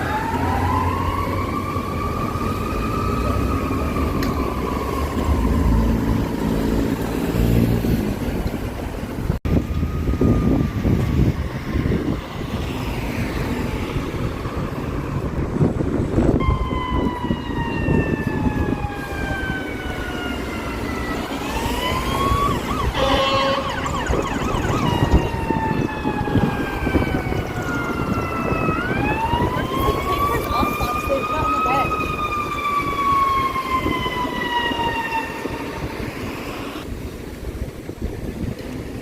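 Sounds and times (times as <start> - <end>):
fire engine siren wailing: 0.0 - 7.9, 9.5 - 36.9
low rumble of engine and traffic: 0.0 - 39.0.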